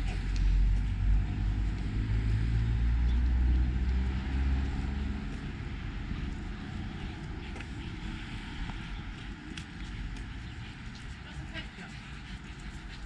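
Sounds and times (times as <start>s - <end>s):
vehicle engine rumble passing: 0.0s - 12.8s.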